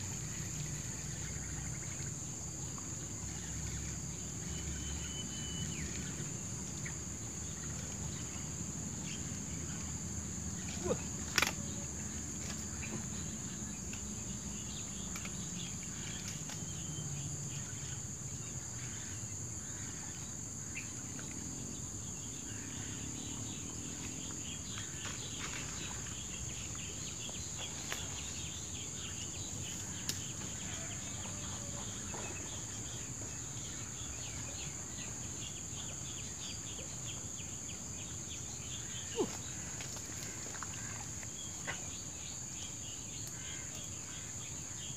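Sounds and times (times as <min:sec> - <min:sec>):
insects buzzing drone: 0:00.0 - 0:44.9
rhythmic insect chirping: 0:00.0 - 0:44.9.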